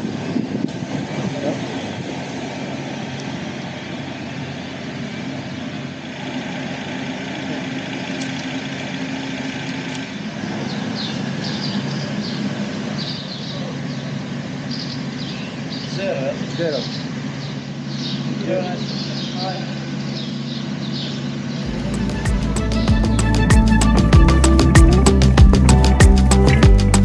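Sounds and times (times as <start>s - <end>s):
vehicle running hum: 0.0s - 27.0s.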